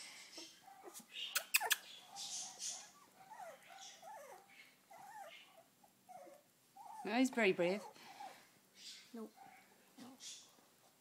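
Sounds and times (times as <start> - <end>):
puppies squeaking and whimpering: 0.3 - 9.6.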